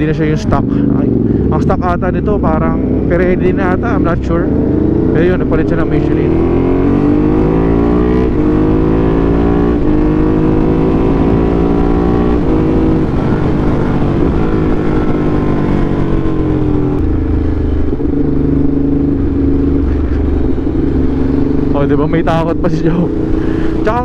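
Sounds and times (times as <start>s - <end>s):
low wind rumble: 0.0s - 24.0s
motorcycle engine accelerating: 0.0s - 24.0s.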